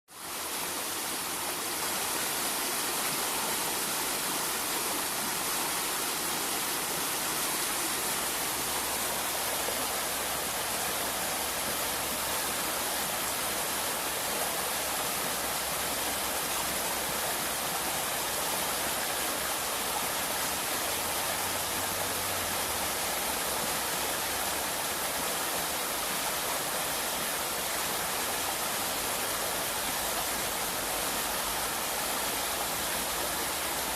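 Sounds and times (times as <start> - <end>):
river water rushing: 0.1 - 33.9.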